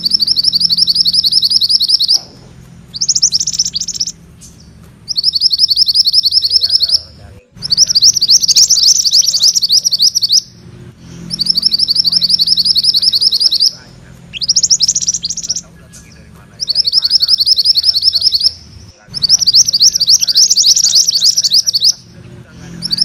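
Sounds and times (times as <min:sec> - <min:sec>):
bird chirping rapidly: 0:00.0 - 0:23.0.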